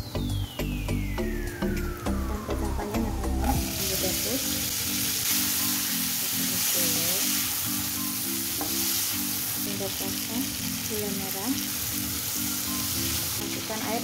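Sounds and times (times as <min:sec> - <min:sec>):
background music: 0:00.0 - 0:14.0
beans sizzling in a wok: 0:00.1 - 0:14.0.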